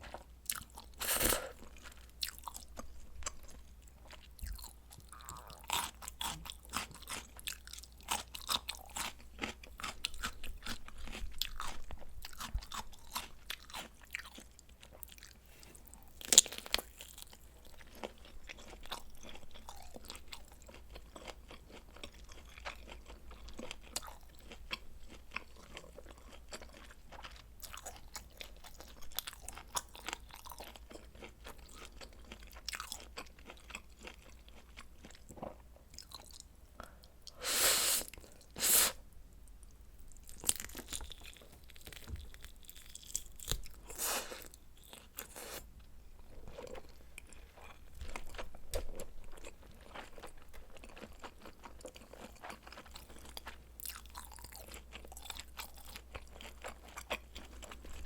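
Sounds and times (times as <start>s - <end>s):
person chewing crunchy food: 0.0s - 39.0s, 39.6s - 58.0s.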